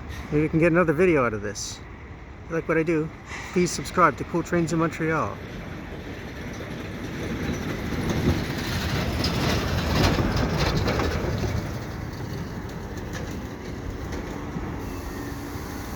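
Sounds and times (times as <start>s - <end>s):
freight train cars rumbling on rails: 0.0s - 15.9s
wheels and couplers clanking: 2.9s - 15.9s.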